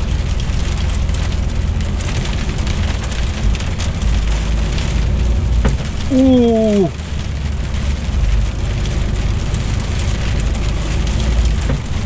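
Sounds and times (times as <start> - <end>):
snow and rain hitting windscreen: 0.0 - 12.0
truck engine drone: 0.0 - 12.0.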